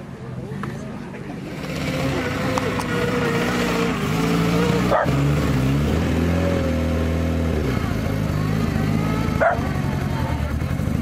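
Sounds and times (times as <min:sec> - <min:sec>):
car engine running at low revs: 0:00.7 - 0:11.0.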